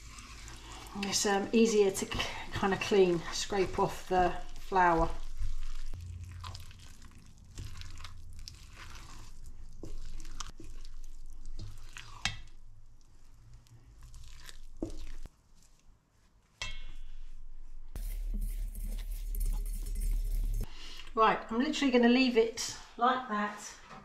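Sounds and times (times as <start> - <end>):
spoon stirring sticky dough: 0.0 - 16.9, 17.9 - 20.7.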